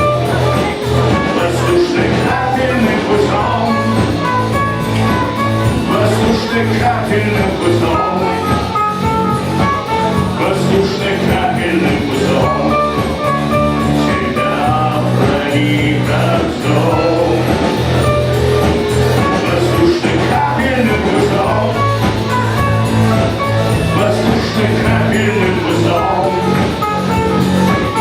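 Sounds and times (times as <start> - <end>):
person singing: 0.0 - 28.0
rock band playing live: 0.0 - 28.0.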